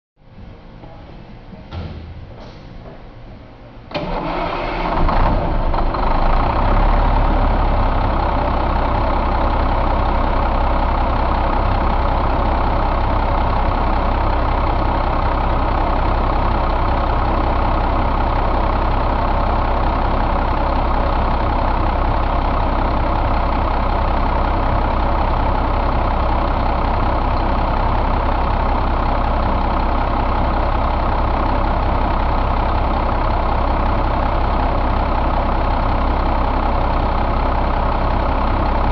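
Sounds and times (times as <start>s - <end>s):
diesel engine idling: 3.9s - 38.9s.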